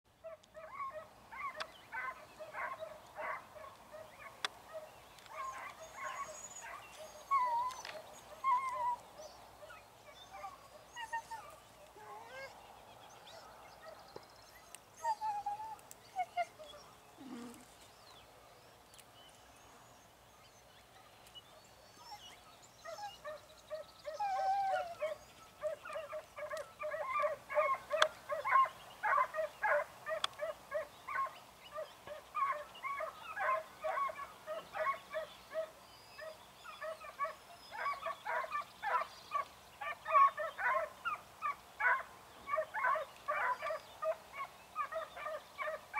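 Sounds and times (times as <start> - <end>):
hounds baying: 0.2 - 12.6, 13.2 - 17.8, 21.9 - 45.9.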